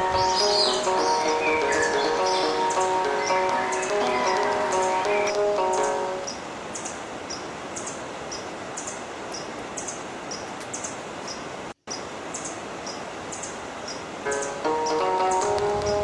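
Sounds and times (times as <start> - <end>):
bird chirping: 0.0 - 16.0
river water rushing: 0.0 - 16.0.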